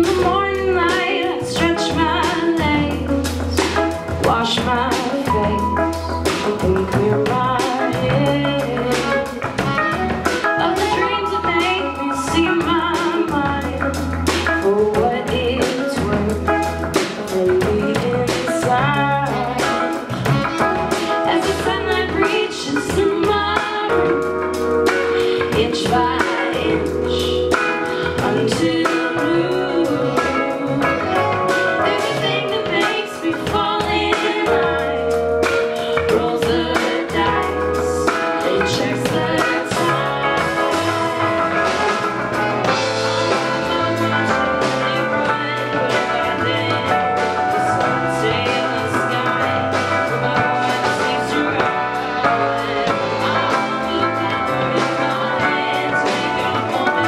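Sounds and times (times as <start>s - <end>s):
bass guitar: 0.0s - 57.0s
drum kit beat: 0.0s - 57.0s
electric guitars: 0.0s - 57.0s
keyboard: 0.0s - 57.0s
woman singing: 0.0s - 57.0s.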